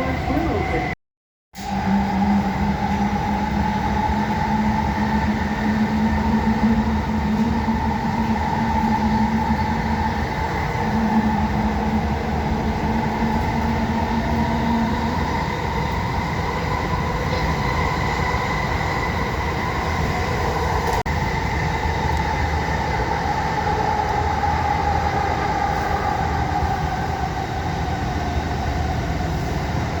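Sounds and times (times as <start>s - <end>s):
train rumbling: 0.0s - 1.0s, 1.6s - 30.0s.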